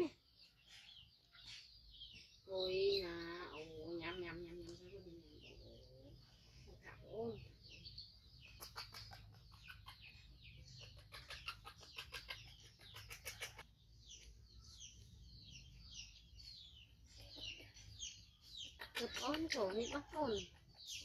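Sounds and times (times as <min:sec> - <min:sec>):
high-pitched bird chirps: 0:00.0 - 0:21.0.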